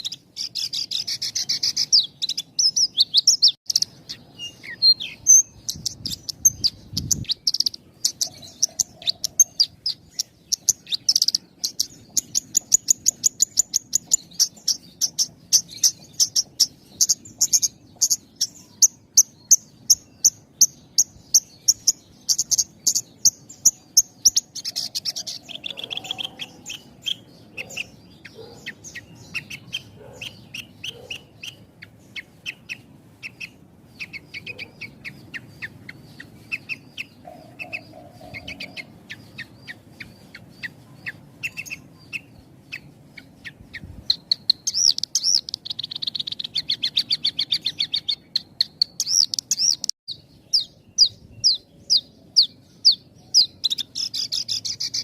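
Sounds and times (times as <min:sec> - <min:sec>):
bird singing high chirps: 0:00.0 - 0:55.0.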